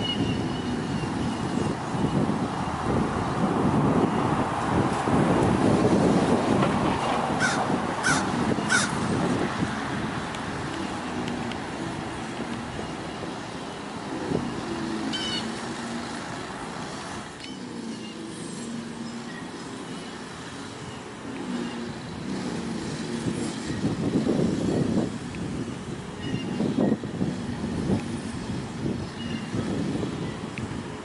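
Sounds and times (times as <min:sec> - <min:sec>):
motor vehicle rumble: 0:00.0 - 0:31.0.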